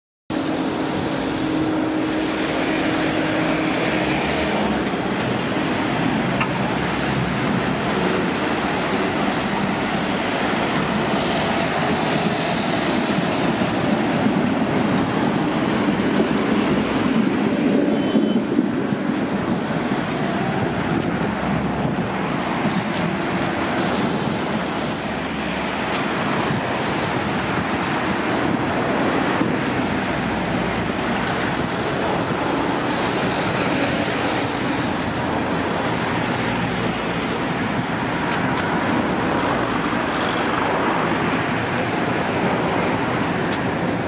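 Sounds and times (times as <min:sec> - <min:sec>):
road traffic passing: 0:00.3 - 0:44.0.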